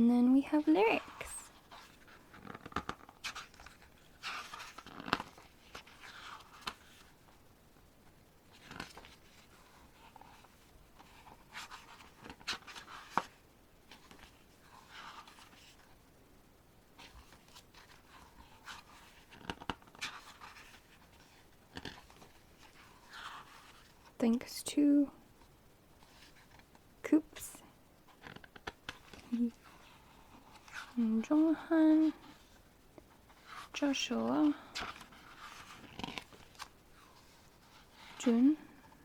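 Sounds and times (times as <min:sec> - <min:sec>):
paper pages rustling: 0:00.9 - 0:07.4, 0:08.5 - 0:16.0, 0:17.0 - 0:24.2, 0:25.4 - 0:26.8, 0:28.0 - 0:39.0.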